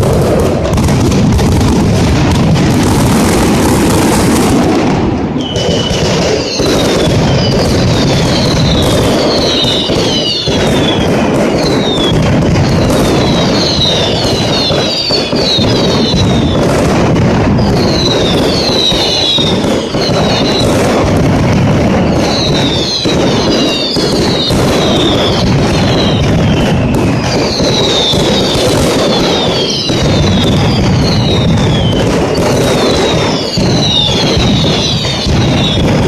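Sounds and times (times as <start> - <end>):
firecracker bangs and cracks: 0.0 - 36.0.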